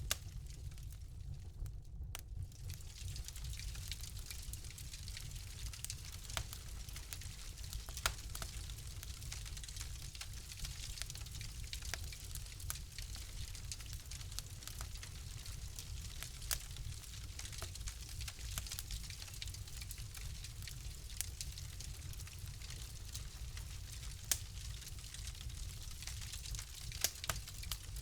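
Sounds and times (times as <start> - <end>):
low fire rumble: 0.0 - 28.0
wood fire crackling: 0.0 - 28.0.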